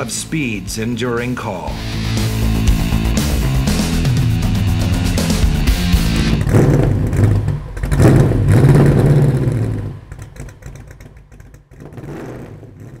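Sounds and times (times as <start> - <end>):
large engine revving loudly: 1.7 - 11.1, 11.7 - 13.0.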